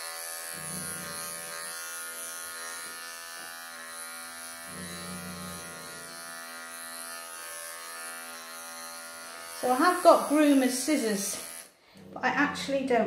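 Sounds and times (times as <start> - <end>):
electric clippers humming: 0.0 - 12.6.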